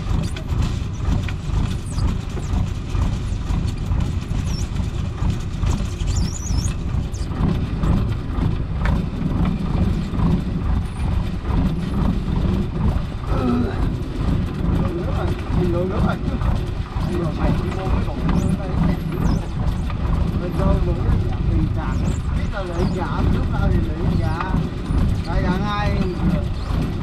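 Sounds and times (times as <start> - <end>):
boat engine rumbling: 0.0 - 27.0.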